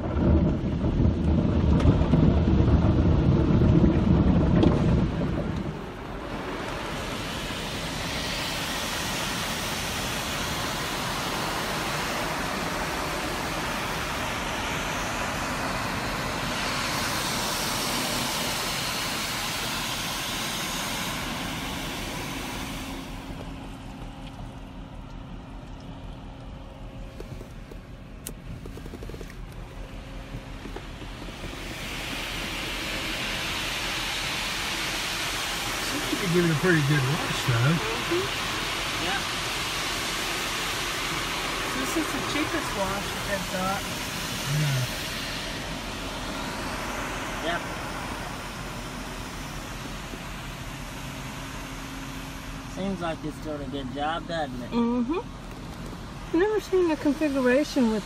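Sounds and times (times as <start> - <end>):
car wash rumble: 0.0 - 58.0
water spray hissing on car: 4.1 - 58.0.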